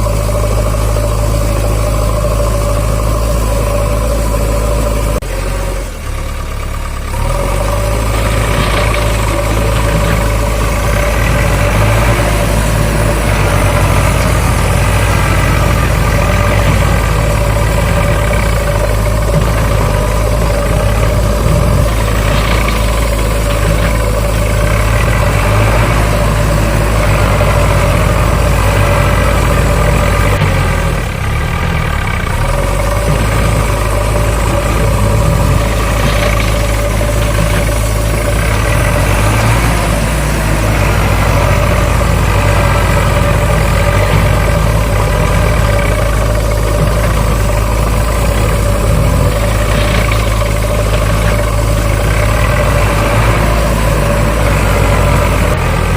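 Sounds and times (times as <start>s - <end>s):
motor running: 0.0s - 55.9s.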